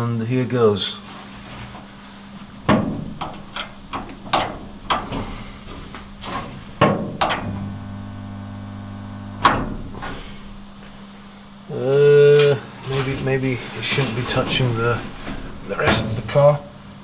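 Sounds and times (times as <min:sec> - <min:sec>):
welder transformer buzzing: 0:01.0 - 0:17.0.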